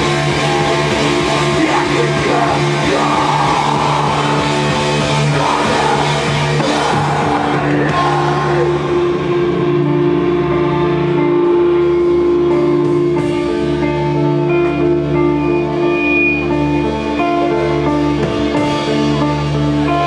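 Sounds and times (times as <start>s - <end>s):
drums: 0.0s - 20.0s
guitars: 0.0s - 20.0s
long held guitar notes: 0.0s - 20.0s.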